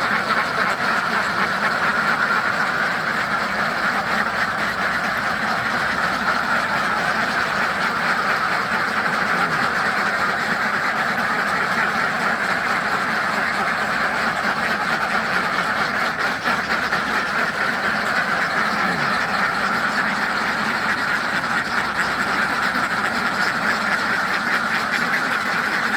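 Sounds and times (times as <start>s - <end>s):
ducks quacking: 0.0s - 25.9s.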